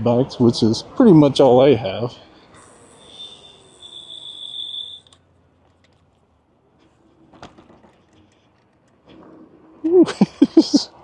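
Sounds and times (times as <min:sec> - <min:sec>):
electric scooter whine: 0:00.0 - 0:09.9.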